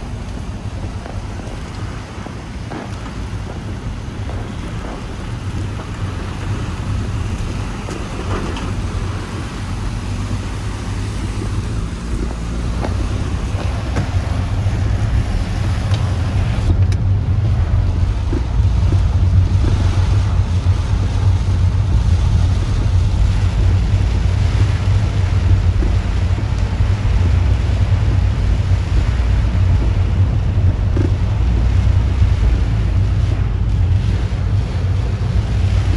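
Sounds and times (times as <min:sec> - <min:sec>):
heavy rain: 0:00.0 - 0:35.9
wind buffeting microphone: 0:00.0 - 0:35.9.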